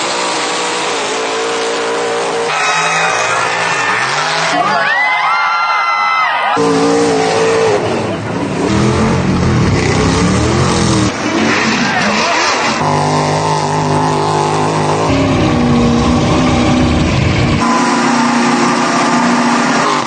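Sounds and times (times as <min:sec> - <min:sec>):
truck engines revving hard: 0:00.0 - 0:05.3, 0:06.4 - 0:20.0.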